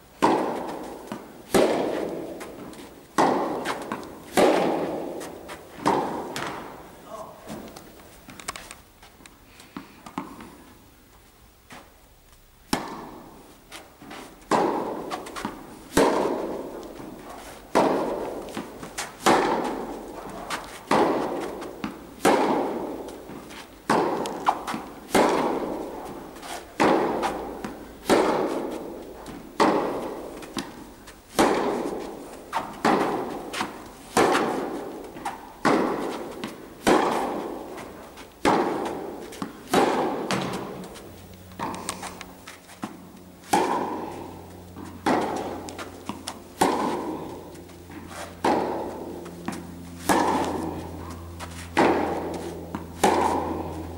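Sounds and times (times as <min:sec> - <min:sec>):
tennis balls struck by rackets: 0:00.0 - 0:10.8, 0:11.7 - 0:53.9.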